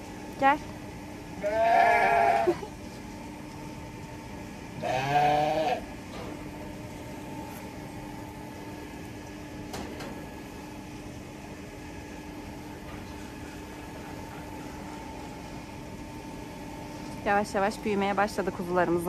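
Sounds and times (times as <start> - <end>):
farm machine humming: 0.0 - 19.0.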